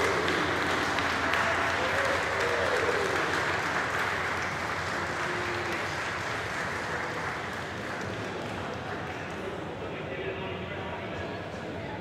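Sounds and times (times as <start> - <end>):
small group applauding: 0.0 - 9.6.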